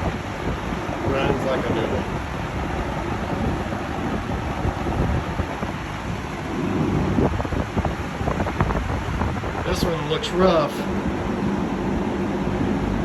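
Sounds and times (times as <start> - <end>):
box fan running: 0.0 - 13.0
wind buffeting microphone: 0.0 - 13.0.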